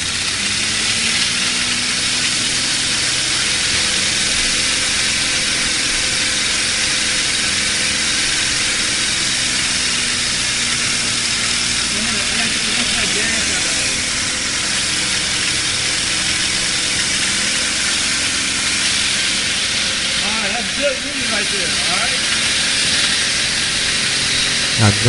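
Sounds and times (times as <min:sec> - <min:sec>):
car engine idling with misfire: 0:00.0 - 0:25.0
loud steady hiss: 0:00.0 - 0:25.0.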